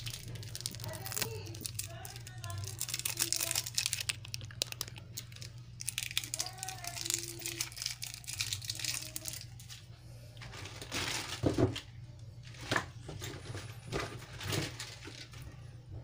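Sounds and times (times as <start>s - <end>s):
plastic packaging rustling: 0.0s - 15.5s
steady low hum: 0.0s - 16.0s.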